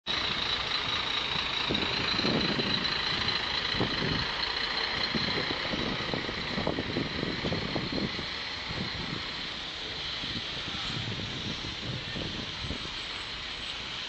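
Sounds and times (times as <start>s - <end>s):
steady high-pitched hiss: 0.1s - 14.0s
truck diesel engine running: 0.1s - 14.0s.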